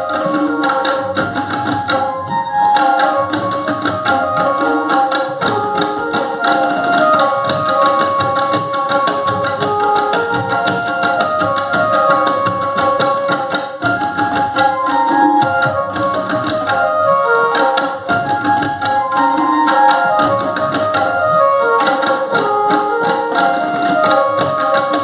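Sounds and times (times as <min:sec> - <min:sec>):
held melody line: 0:00.0 - 0:25.0
tabla drumming ensemble: 0:00.0 - 0:25.0.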